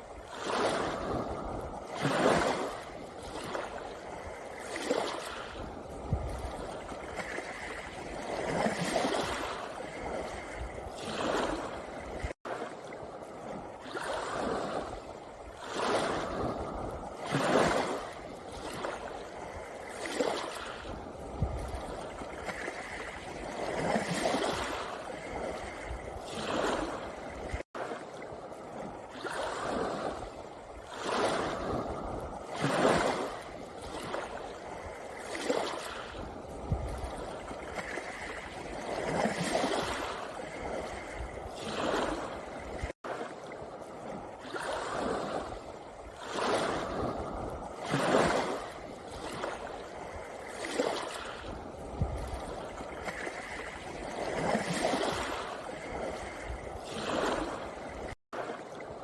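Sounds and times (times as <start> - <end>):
waves lapping on pebble beach: 0.0 - 59.0.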